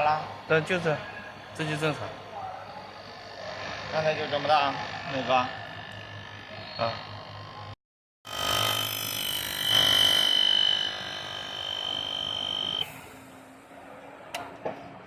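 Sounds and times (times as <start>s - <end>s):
massage chair motor whine: 0.0s - 13.6s.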